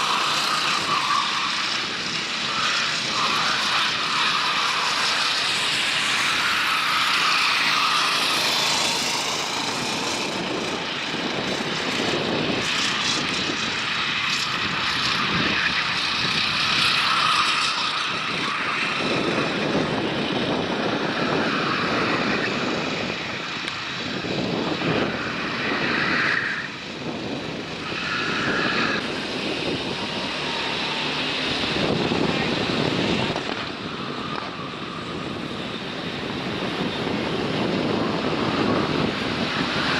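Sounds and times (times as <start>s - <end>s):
racing kart engines buzzing: 0.0s - 39.9s.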